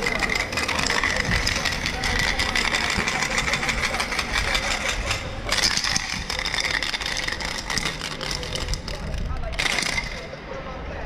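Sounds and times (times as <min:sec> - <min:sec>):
spray paint can hissing: 0:00.0 - 0:10.3.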